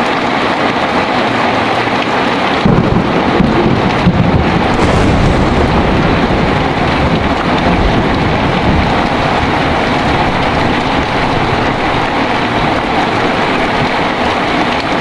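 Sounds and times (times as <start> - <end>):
heavy rain pouring: 0.0 - 15.0
thunder rumble: 2.5 - 15.0.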